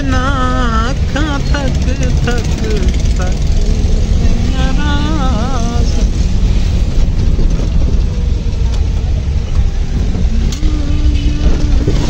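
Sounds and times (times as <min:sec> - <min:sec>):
traffic engines and road noise: 0:00.0 - 0:12.0.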